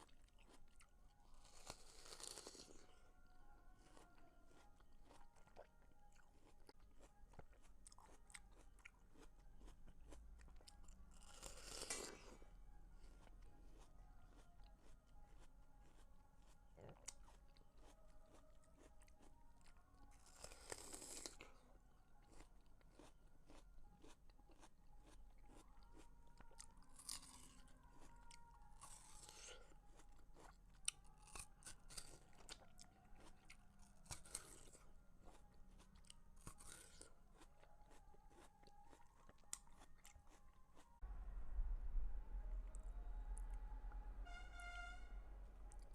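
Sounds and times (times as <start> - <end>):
chewing watermelon: 0.0 - 41.0.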